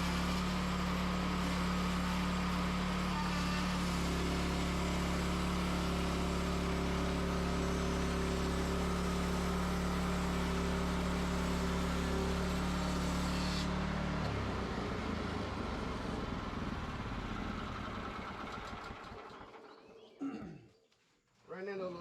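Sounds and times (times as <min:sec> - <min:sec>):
engine running: 0:00.0 - 0:20.4.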